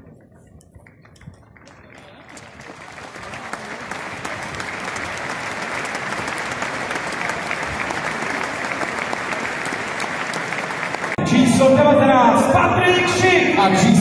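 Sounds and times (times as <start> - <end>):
stadium crowd applauding: 0.0 - 11.8.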